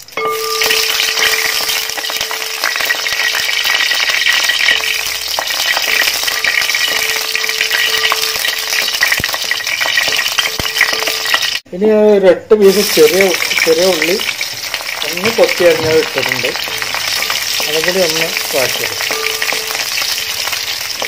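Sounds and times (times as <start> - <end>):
chillies sizzling in oil: 0.0 - 11.6, 12.5 - 21.0.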